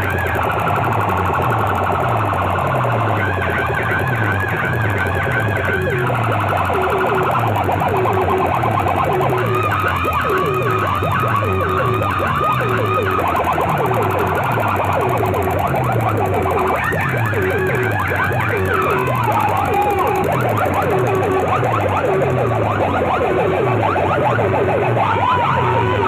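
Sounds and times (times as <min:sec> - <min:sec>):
siren-like electronic tones: 0:00.0 - 0:26.0.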